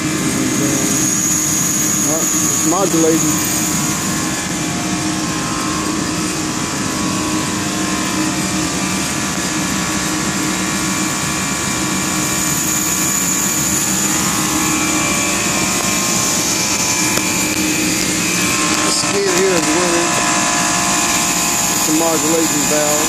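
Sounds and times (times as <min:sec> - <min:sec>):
compressor machine hum: 0:00.0 - 0:23.0
constant high hiss: 0:00.0 - 0:23.0.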